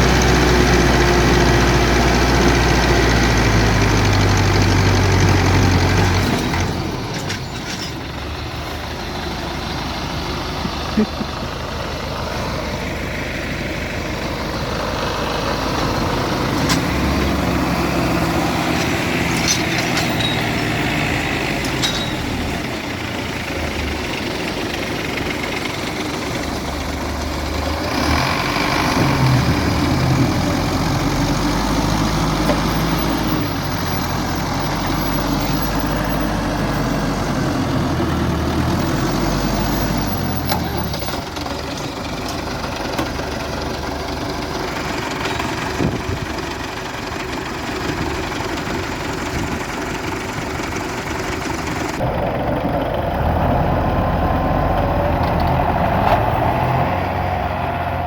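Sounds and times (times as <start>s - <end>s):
tractor diesel engines running: 0.0s - 58.0s.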